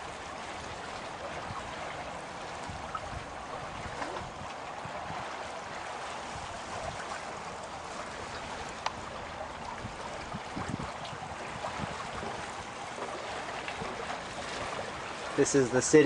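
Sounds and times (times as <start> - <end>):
small water splashes: 0.0 - 16.0
water rushing along a hull: 0.0 - 16.0.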